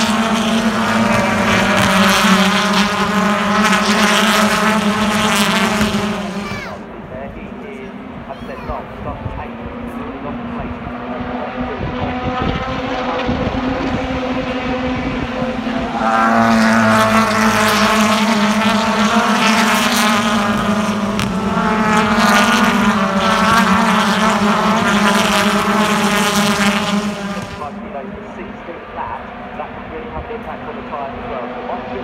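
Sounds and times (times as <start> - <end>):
racing cars passing: 0.0 - 32.0.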